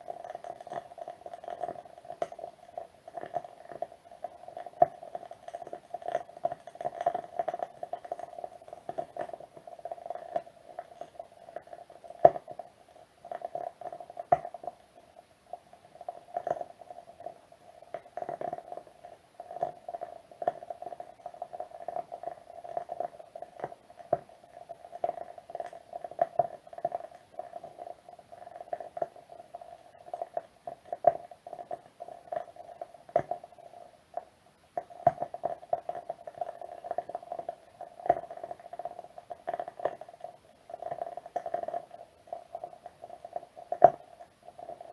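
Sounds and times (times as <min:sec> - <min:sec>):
candle wick crackling: 0:00.0 - 0:14.9, 0:15.5 - 0:44.9.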